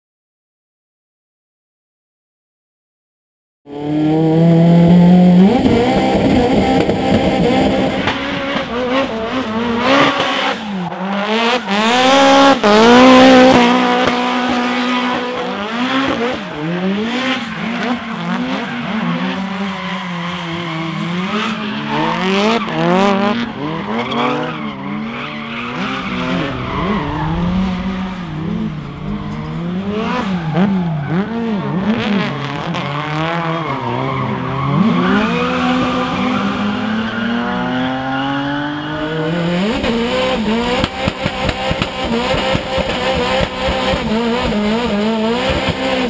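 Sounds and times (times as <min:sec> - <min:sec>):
car engine revving hard: 0:03.7 - 0:46.0.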